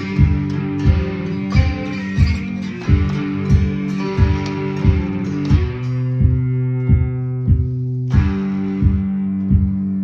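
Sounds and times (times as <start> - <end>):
instrumental guitar music: 0.0 - 10.0
knocking beat: 0.0 - 10.0.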